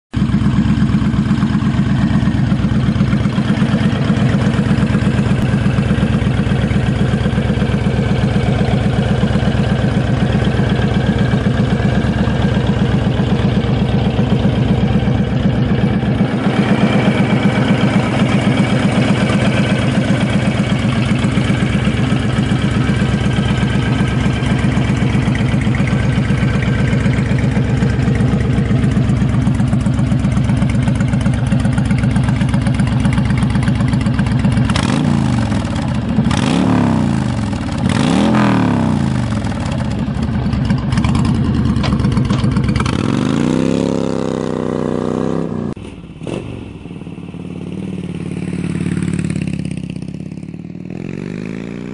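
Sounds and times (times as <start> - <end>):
motorcycle engine idling: 0.1 - 51.9.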